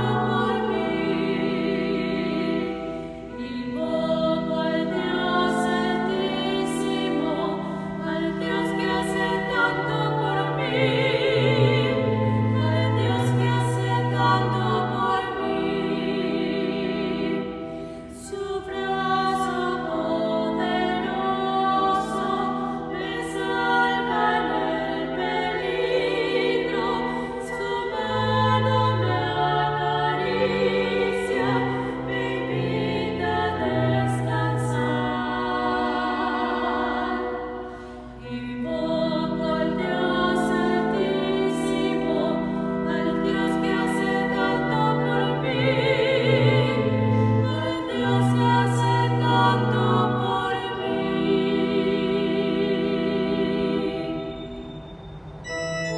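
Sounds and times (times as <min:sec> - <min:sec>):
held organ notes: 0:00.0 - 0:55.9
two sopranos singing: 0:00.0 - 0:55.9.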